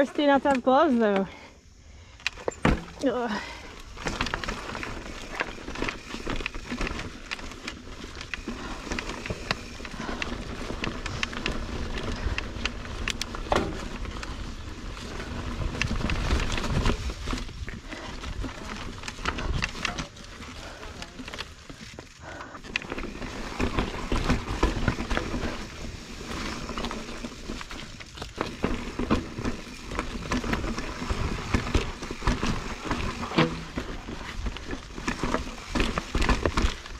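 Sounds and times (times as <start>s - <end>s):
bike clicking and rattling: 0.0s - 36.9s
bike tyres on dirt and rocks: 0.0s - 36.9s.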